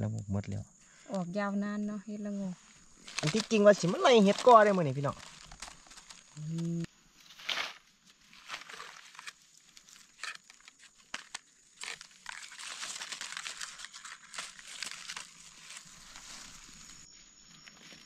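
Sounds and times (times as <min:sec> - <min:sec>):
dry leaves crackling and rustling: 0:02.9 - 0:18.0.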